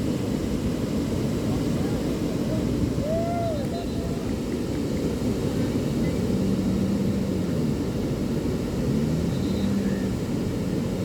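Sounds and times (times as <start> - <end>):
ocean surf: 0.0 - 11.0
wind: 0.0 - 11.0.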